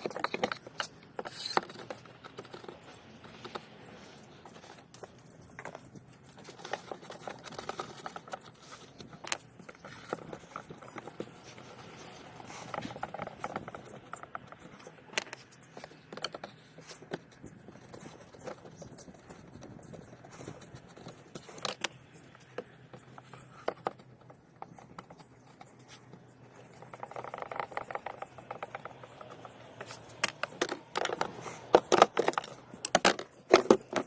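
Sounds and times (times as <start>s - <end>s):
tool clicks taps and scrapes: 0.0s - 34.0s.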